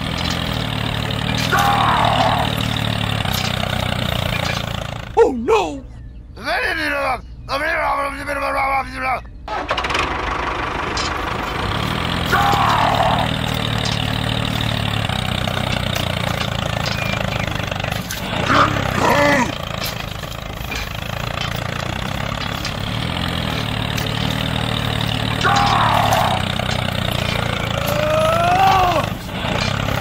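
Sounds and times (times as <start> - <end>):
tractor engine running: 0.0 - 8.6, 9.3 - 30.0.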